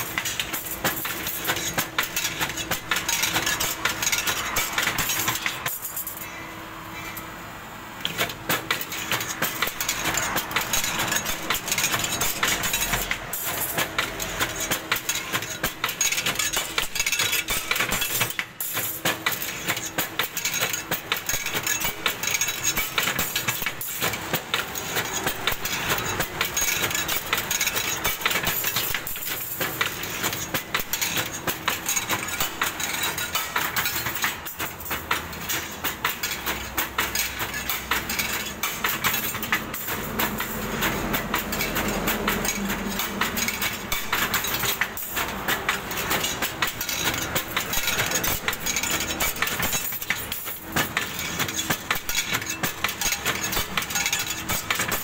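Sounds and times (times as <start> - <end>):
machine metallic clatter: 0.0 - 6.4, 8.0 - 55.0.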